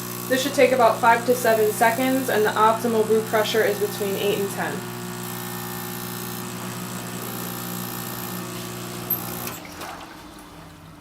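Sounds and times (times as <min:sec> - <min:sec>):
espresso machine pump buzzing: 0:00.0 - 0:09.8.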